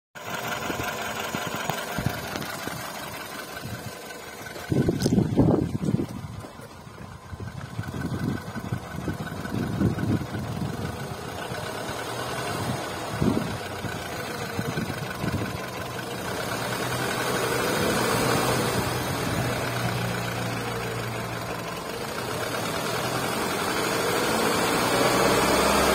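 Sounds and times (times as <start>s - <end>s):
car engine idling: 0.2s - 25.9s.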